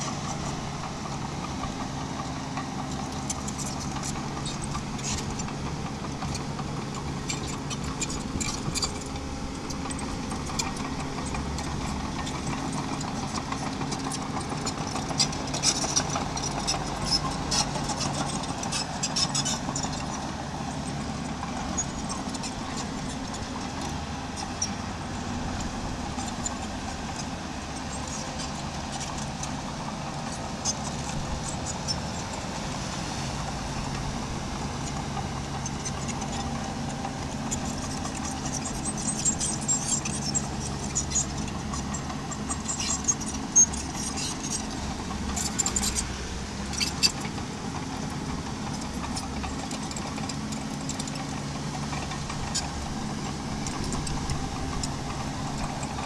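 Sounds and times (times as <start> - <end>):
small diesel engine running: 0.0 - 56.0.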